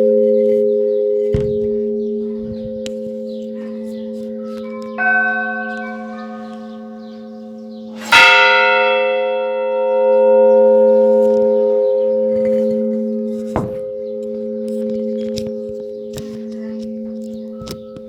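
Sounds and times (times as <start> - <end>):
bell strike ringing out: 0.0 - 15.6
large bell low hum: 0.0 - 18.0.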